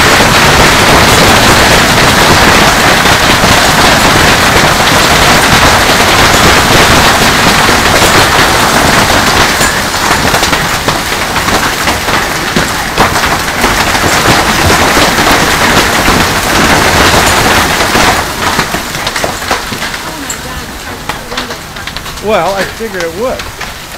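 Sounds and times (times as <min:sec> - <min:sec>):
hailstones clattering on water and ground: 0:00.0 - 0:23.9.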